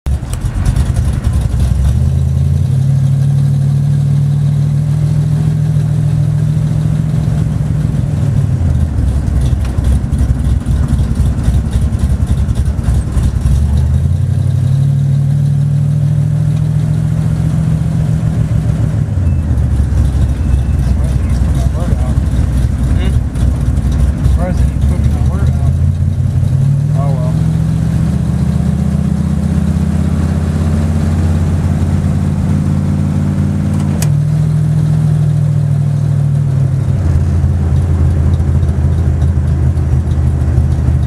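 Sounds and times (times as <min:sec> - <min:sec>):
car engine revving while driving: 0:00.1 - 0:41.0.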